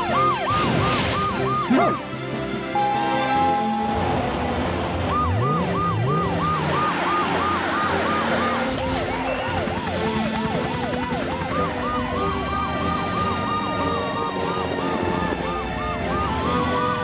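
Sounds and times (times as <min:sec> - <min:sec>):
background music: 0:00.0 - 0:17.0
cartoon sirens wailing: 0:00.0 - 0:17.0.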